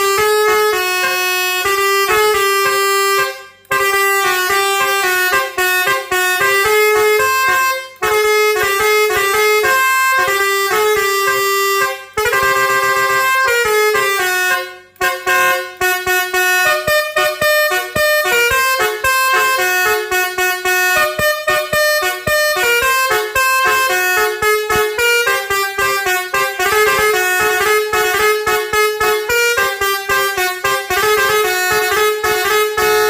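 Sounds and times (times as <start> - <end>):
musical air horn tune: 0.0 - 33.0.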